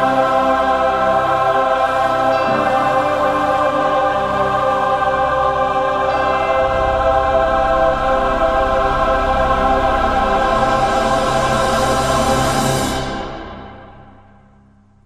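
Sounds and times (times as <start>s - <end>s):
choir singing sustained chords: 0.0s - 14.9s.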